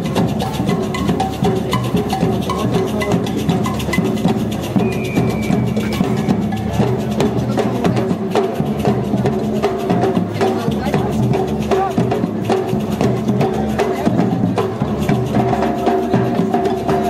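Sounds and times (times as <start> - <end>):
bass drums: 0.0 - 17.0
cymbals: 0.0 - 17.0
snare drums: 0.0 - 17.0.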